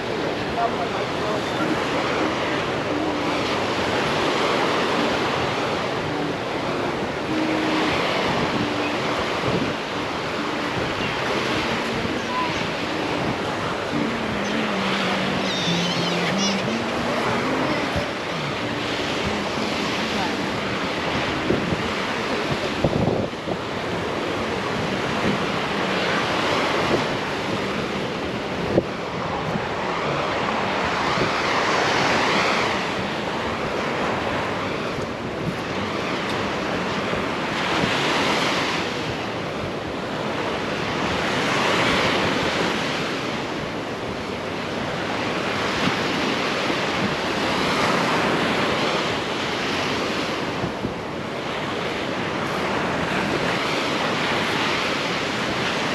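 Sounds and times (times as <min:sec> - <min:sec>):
ocean surf breaking: 0:00.0 - 0:55.9
wind buffeting microphone: 0:00.0 - 0:55.9.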